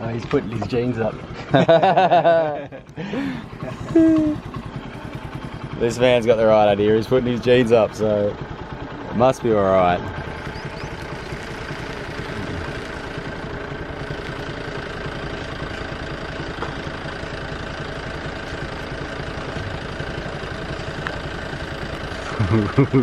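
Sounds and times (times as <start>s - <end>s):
auto-rickshaw engine idling: 0.0s - 23.0s.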